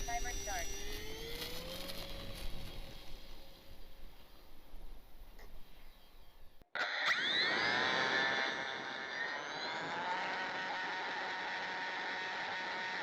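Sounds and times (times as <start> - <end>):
electric propeller motor whine: 0.0 - 5.0, 6.8 - 13.0.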